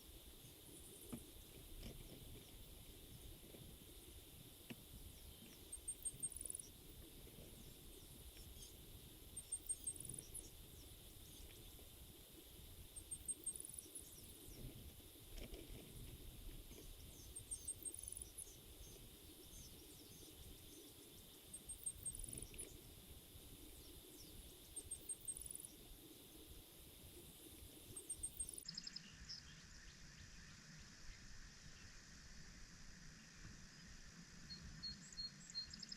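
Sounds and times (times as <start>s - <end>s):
faint outdoor background: 0.0s - 35.9s.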